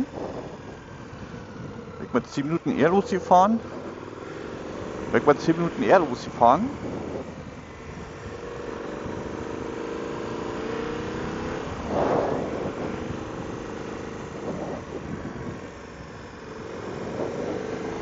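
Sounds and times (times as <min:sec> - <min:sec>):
motorcycle engine running: 0:00.0 - 0:18.0
wind noise: 0:00.0 - 0:18.0.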